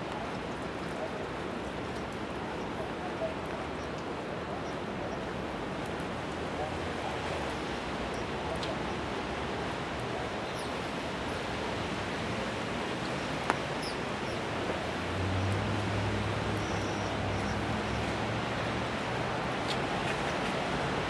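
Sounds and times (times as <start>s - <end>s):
rain hiss: 0.0s - 21.0s
traffic on wet roads: 0.0s - 21.0s.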